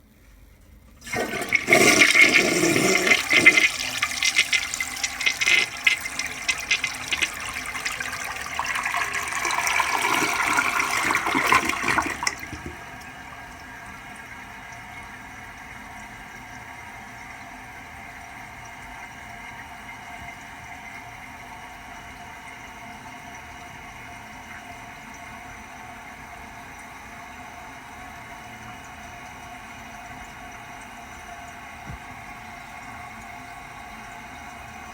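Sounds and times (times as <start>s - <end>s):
toilet flushing: 0.9s - 34.9s
water running into cistern: 1.0s - 34.9s.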